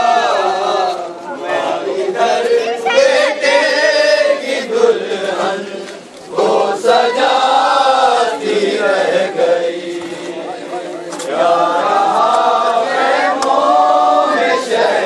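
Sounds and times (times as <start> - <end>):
crowd chanting a lament: 0.0 - 15.0.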